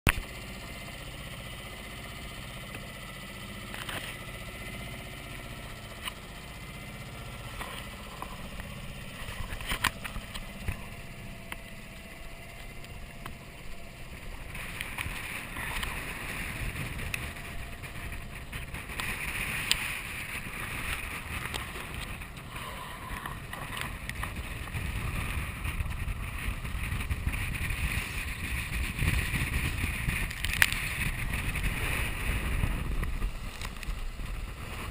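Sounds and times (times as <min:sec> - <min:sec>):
wind buffeting microphone: 0:04.7 - 0:34.9.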